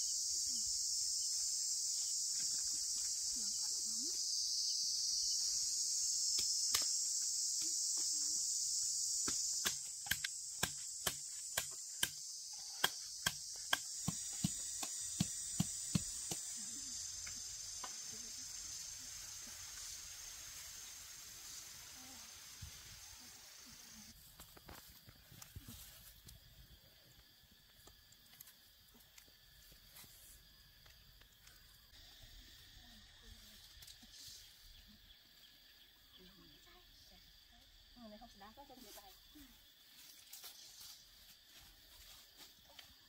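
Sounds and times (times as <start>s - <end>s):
high insect chorus: 0.0s - 43.0s.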